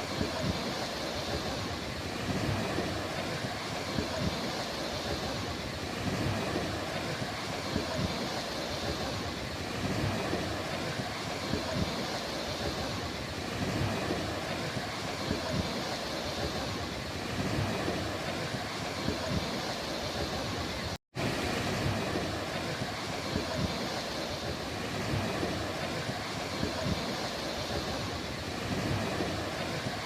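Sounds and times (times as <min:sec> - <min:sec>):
ocean surf on shore: 0:00.0 - 0:30.0
wind rumbling on microphone: 0:00.0 - 0:30.0.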